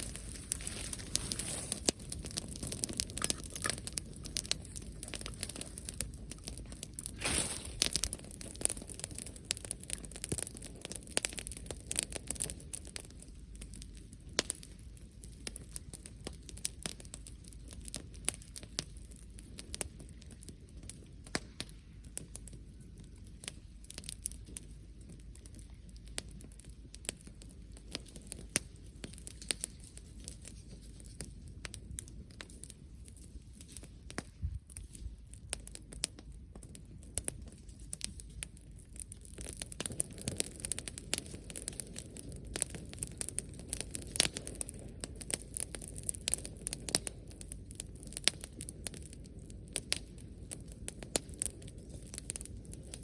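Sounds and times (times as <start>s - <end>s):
bonfire crackling and popping: 0.0s - 53.0s.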